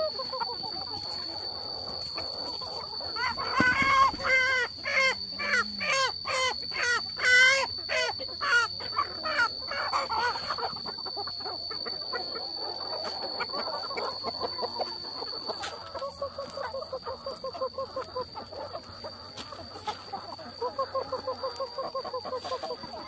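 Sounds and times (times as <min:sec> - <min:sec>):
chickens squawking: 0:00.0 - 0:23.0.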